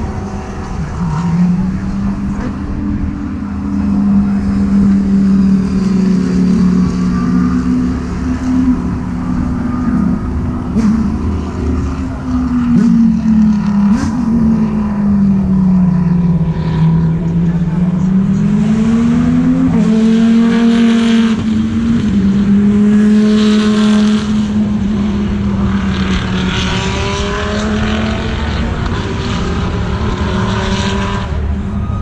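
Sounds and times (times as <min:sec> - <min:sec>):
race car engines: 0:00.0 - 0:32.0.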